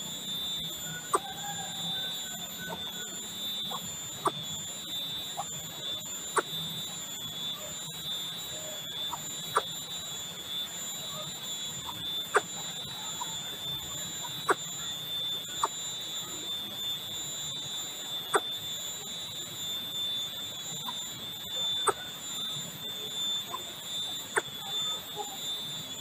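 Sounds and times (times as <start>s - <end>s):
high-pitched whine: 0.0s - 26.0s.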